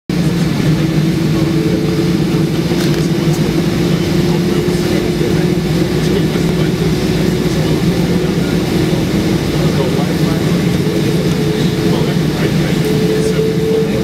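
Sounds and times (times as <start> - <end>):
air rushing in cabin: 0.1 - 14.0
jet engines droning: 0.1 - 14.0.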